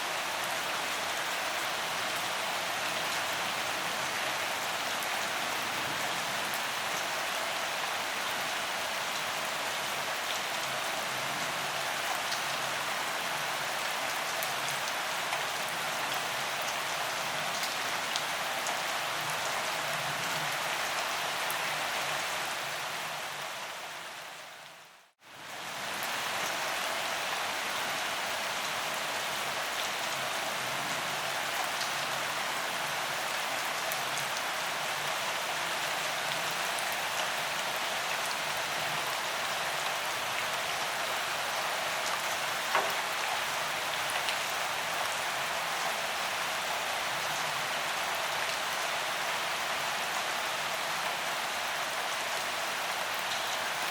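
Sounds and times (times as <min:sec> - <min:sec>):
gentle rain: 0:00.0 - 0:53.9.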